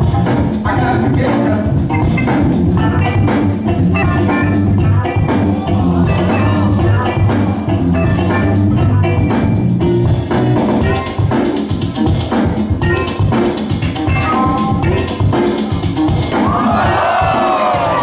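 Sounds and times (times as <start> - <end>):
breakbeat music: 0.0 - 18.0.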